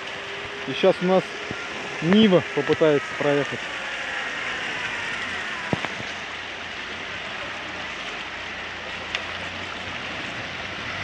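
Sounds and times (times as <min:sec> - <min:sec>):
engine running low: 0:00.0 - 0:11.0
water splashing around wheels: 0:00.0 - 0:11.0.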